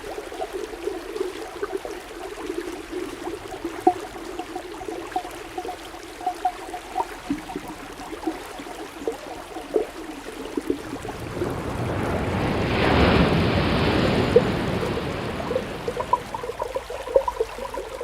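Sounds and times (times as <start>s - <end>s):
underwater bubbling pops: 0.0s - 12.1s, 13.0s - 18.0s
rushing water: 0.0s - 18.0s.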